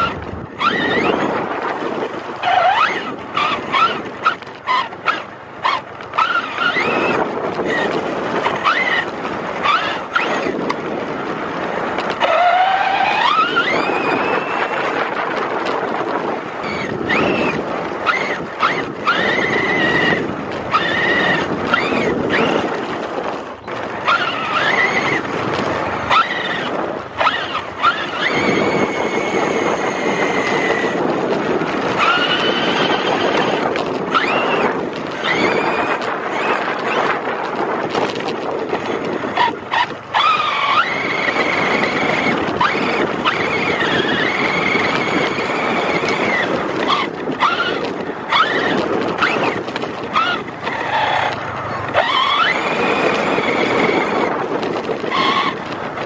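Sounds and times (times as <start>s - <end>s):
toy truck motor whining: 0.0s - 1.4s, 2.4s - 10.7s, 12.1s - 14.9s, 16.6s - 22.8s, 24.0s - 31.1s, 31.8s - 55.7s
drivetrain and tyre noise: 0.0s - 56.0s.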